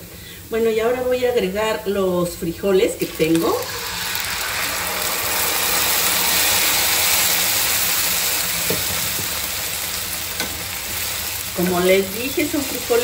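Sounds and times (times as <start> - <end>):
beans sizzling in hot oil: 0.0 - 13.0.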